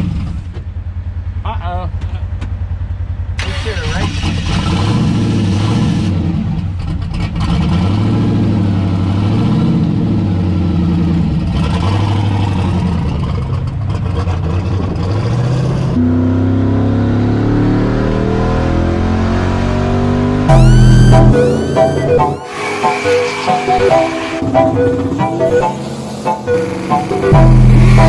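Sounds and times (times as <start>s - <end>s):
car engine revving: 3.4s - 28.0s.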